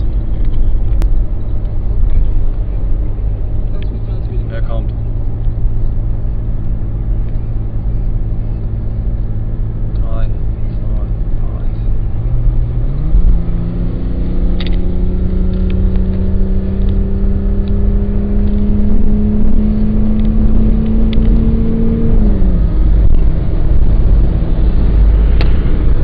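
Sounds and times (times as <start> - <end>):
car engine accelerating: 0.0 - 26.0
road and wind rumble: 0.0 - 26.0.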